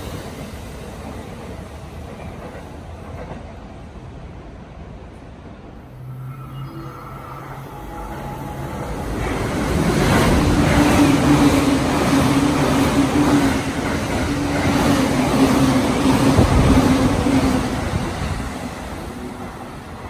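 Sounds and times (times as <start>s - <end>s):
train wheel and rail noise: 0.0s - 20.0s.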